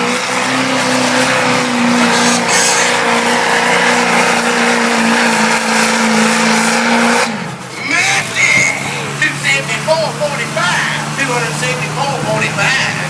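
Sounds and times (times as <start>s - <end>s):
diesel truck engine under load: 0.0s - 13.0s
noisy rush: 0.0s - 13.0s.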